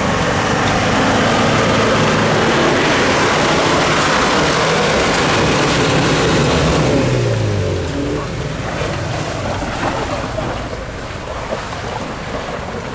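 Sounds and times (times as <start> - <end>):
off-road engine revving: 0.0 - 12.9.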